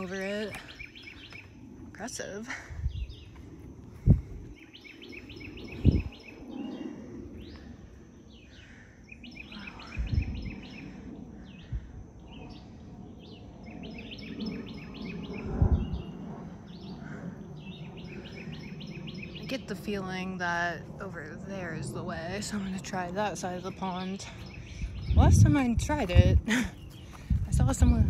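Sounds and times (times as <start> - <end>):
wild birds chirping: 0.0 - 28.0.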